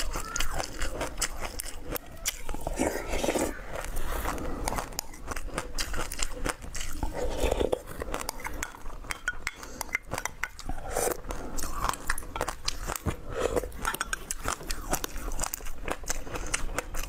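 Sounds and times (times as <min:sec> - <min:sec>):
biting and crunching seeds: 0:00.0 - 0:17.0.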